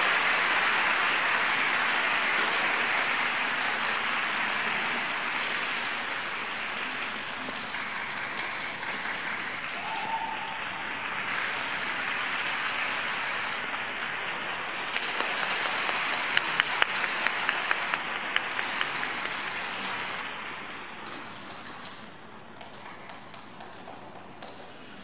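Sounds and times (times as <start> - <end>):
audience applauding: 0.0 - 22.0
sharp claps close by: 0.0 - 24.7.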